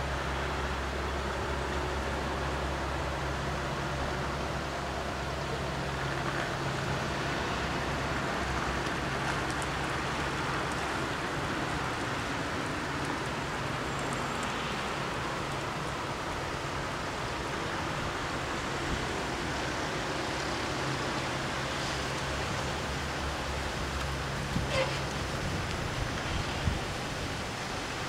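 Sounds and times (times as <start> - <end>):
idling engines hum: 0.0 - 28.0
street traffic noise: 0.0 - 28.0.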